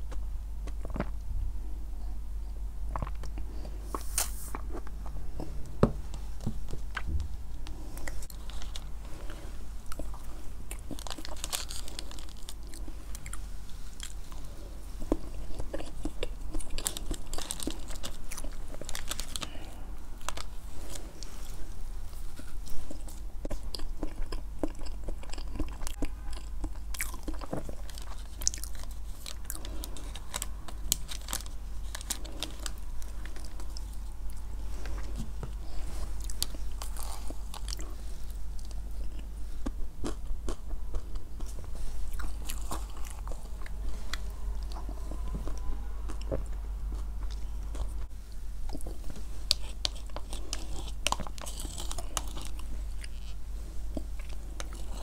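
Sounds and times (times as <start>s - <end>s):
low steady hum: 0.0s - 55.0s
close chewing and mouth sounds: 2.5s - 55.0s.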